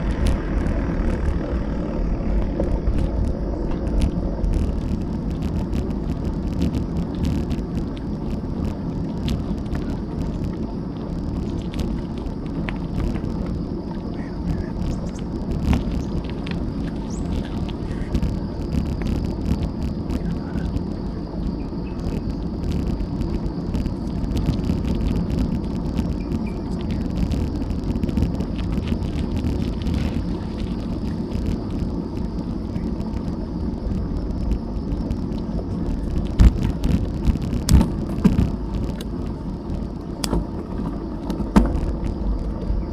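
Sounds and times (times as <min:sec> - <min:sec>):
bicycle tyres rolling on road: 0:00.0 - 0:42.9
wind rumble: 0:00.0 - 0:42.9.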